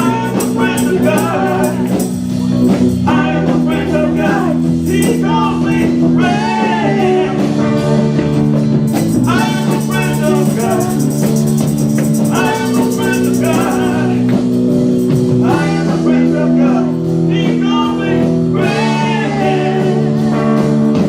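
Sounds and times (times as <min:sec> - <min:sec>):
person singing: 0:00.0 - 0:08.2, 0:09.2 - 0:14.4, 0:15.4 - 0:20.8
live band playing: 0:00.0 - 0:21.0.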